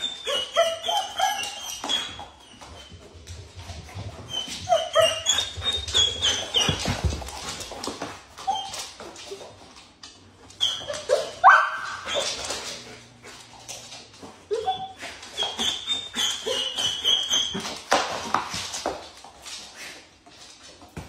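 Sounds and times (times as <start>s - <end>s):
dogs whining and yelping: 0.0s - 9.6s, 10.4s - 18.8s.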